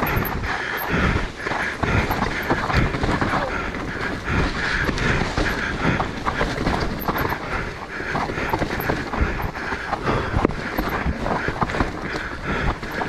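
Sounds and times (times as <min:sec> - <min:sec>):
bike frame and chain rattling: 0:00.0 - 0:13.0
tyre noise: 0:00.0 - 0:13.0
wind noise: 0:00.0 - 0:13.0.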